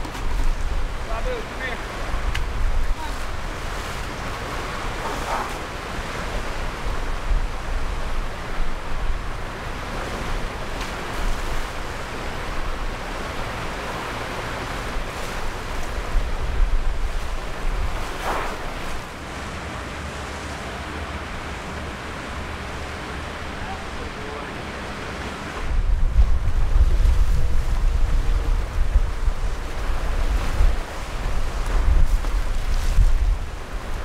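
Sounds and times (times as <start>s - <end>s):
wind buffeting microphone: 0.0s - 19.2s, 25.5s - 34.0s.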